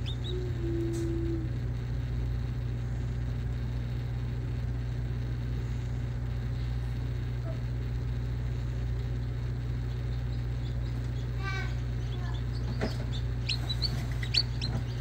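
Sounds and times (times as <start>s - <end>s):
egg incubator humming: 0.0s - 15.0s.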